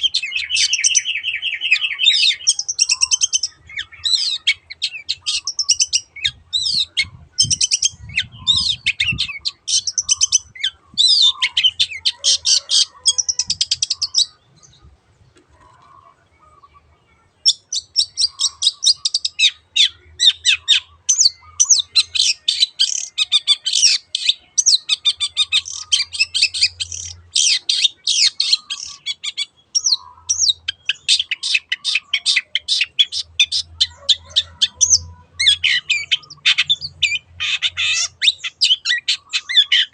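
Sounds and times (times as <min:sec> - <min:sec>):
bird singing high chattering notes: 0:00.0 - 0:15.0, 0:16.4 - 0:39.9.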